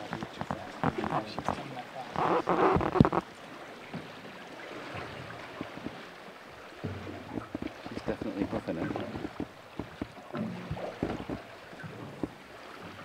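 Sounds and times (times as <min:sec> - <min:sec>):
lake water washing: 0:00.0 - 0:13.0.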